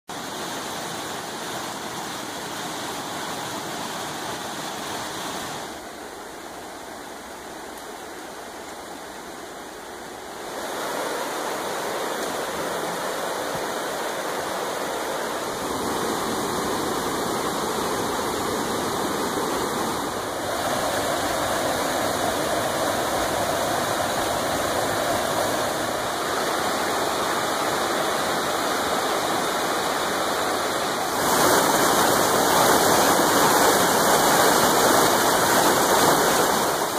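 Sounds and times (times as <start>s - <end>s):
water rushing over rapids: 0.1s - 36.9s.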